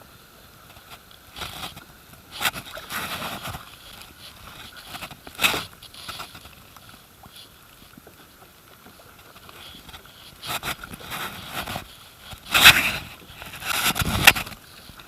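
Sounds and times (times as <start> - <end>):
low water noise: 0.0 - 15.0
paddle splashes: 0.0 - 15.0.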